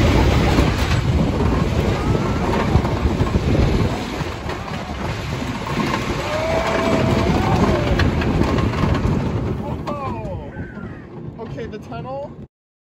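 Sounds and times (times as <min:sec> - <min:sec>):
roller coaster train clattering on track: 0:00.0 - 0:12.5
wind rush on microphone: 0:00.0 - 0:12.5.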